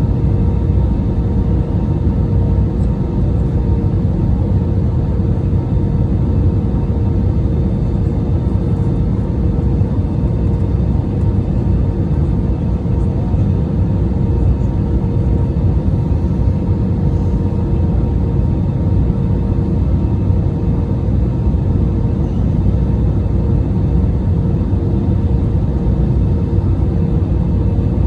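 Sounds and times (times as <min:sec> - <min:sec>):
airplane cabin engine rumble: 0:00.0 - 0:28.0
steady hum: 0:00.0 - 0:28.0.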